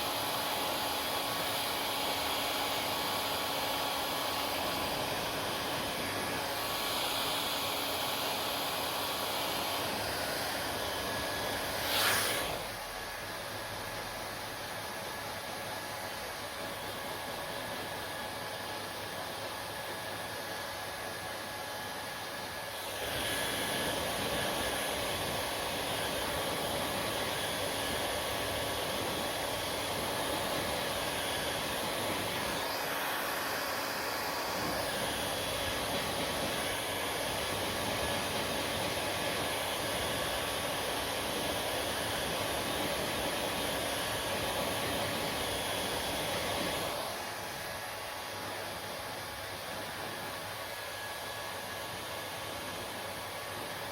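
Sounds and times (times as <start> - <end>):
hair dryer blowing: 0.0 - 53.9.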